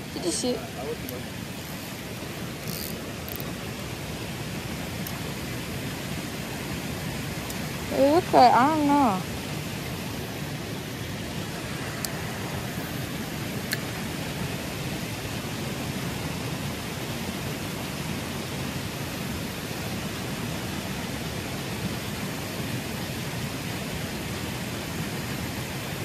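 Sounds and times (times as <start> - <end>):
water rushing over a weir: 0.0 - 26.0.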